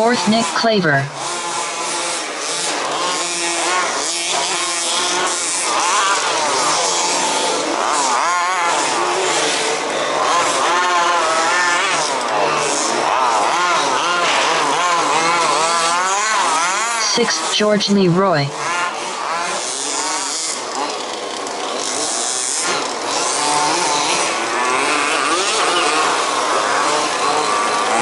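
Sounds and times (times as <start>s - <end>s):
rc car engines whining: 0.0s - 28.0s.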